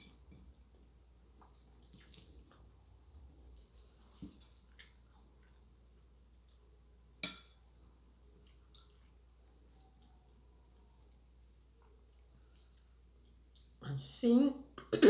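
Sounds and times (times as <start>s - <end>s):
food squished and chewed: 0.1s - 13.8s.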